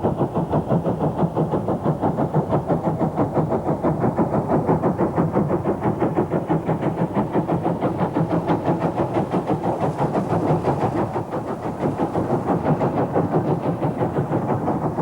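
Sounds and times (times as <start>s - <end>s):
steam locomotive exhaust beats: 0.0s - 15.0s
train running and rail noise: 0.0s - 15.0s.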